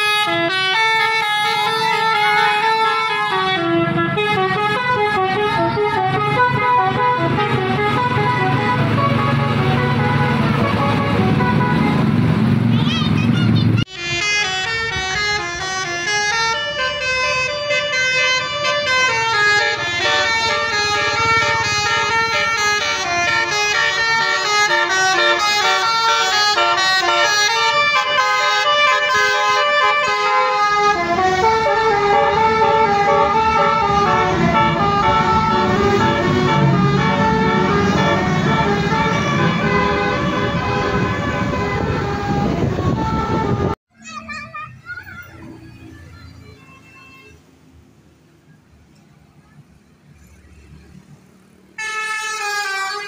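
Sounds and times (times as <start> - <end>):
multi-tone bus horn tune: 0.0 - 12.2, 13.8 - 43.8, 51.7 - 53.0
bus engine rumbling: 0.0 - 53.0
traffic: 0.0 - 53.0.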